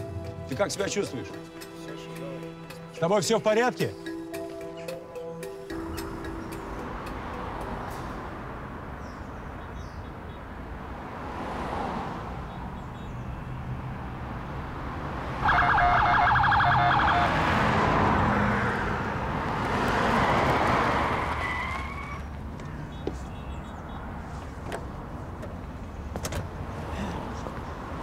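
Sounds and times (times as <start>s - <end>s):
cars driving past: 4.1s - 28.0s.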